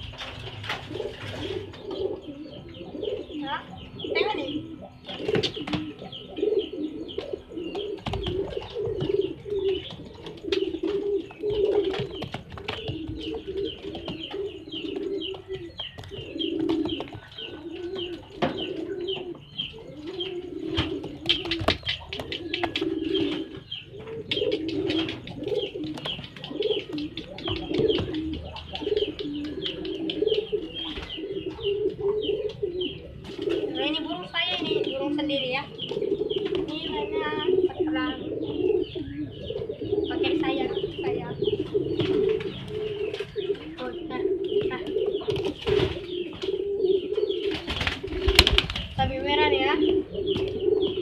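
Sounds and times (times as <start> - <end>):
pigeon cooing: 0.0 - 51.0
high chirping: 1.1 - 51.0.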